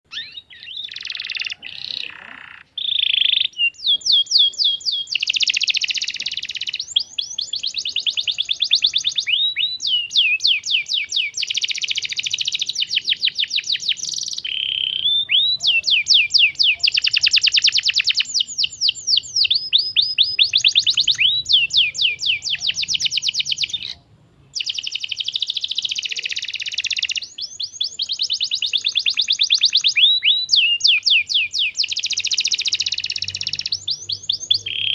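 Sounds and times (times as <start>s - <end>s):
canary singing fast trills: 0.0s - 34.9s.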